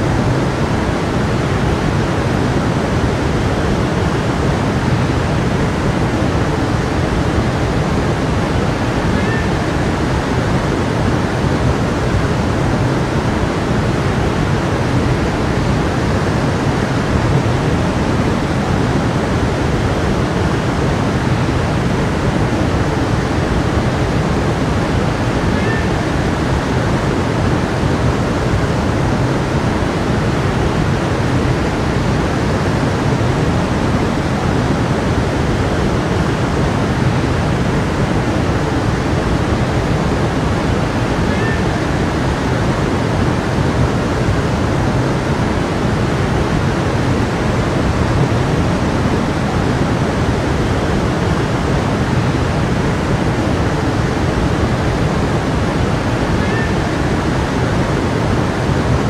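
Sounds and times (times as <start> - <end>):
stream of water flowing: 0.0 - 59.0.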